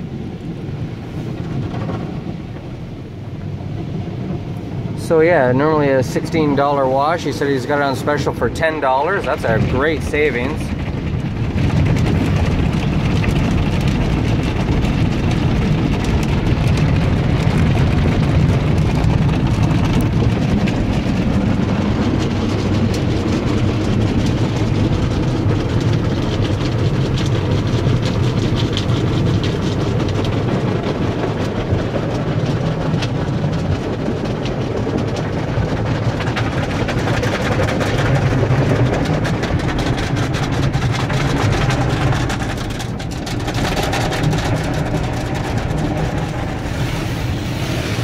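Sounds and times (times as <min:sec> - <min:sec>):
water spraying on car: 0:00.0 - 0:48.0.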